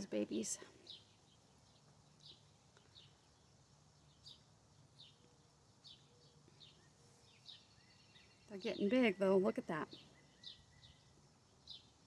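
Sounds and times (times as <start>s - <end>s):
small bird chirping: 0.8s - 9.2s, 9.8s - 12.0s.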